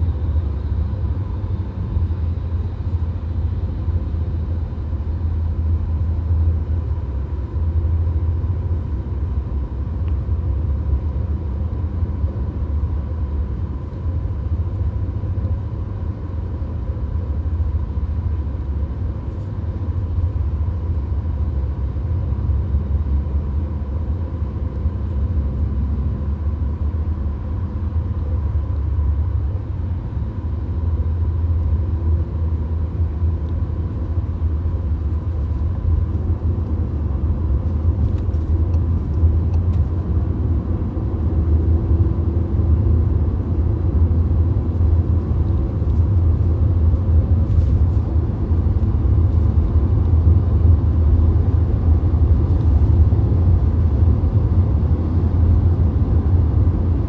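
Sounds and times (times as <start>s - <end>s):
faint steady whine: 0.0s - 57.0s
road and tyre rumble: 0.0s - 57.0s.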